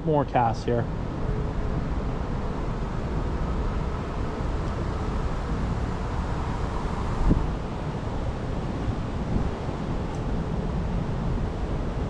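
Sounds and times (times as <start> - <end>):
wind buffeting microphone: 0.9 - 12.0.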